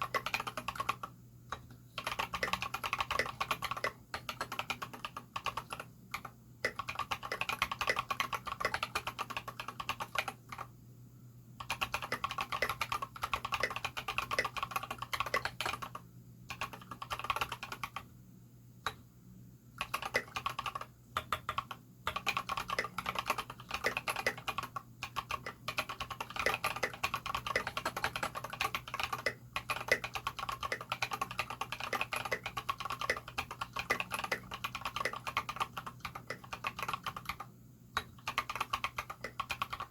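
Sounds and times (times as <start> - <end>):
mechanical keyboard typing: 0.0 - 10.7, 11.6 - 18.1, 19.8 - 39.9
faint low hum: 0.0 - 39.9.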